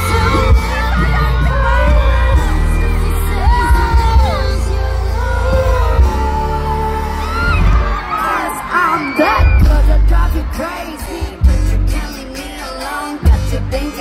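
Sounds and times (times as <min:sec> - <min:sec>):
pop music with vocals: 0:00.0 - 0:14.0.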